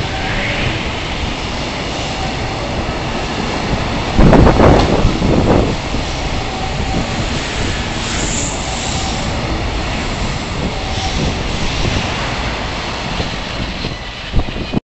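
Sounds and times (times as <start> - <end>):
train wheels on rails: 0.0 - 14.8.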